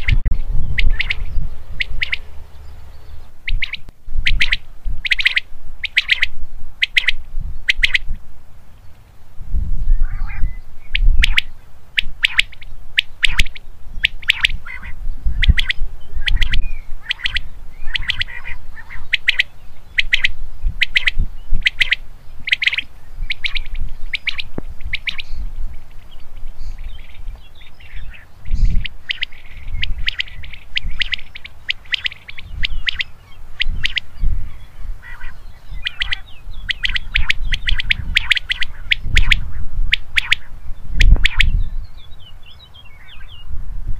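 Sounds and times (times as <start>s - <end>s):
quail singing: 0.0s - 8.2s, 9.8s - 43.5s.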